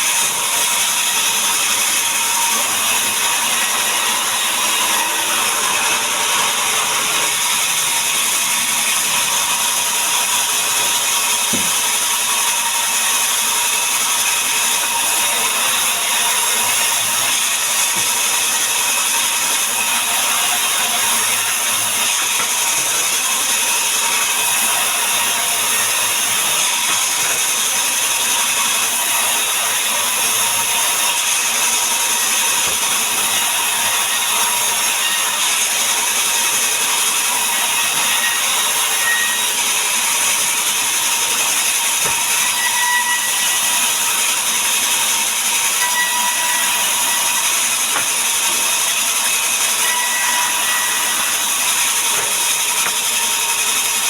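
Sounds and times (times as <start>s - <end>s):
power saw cutting wood: 0.0s - 54.0s.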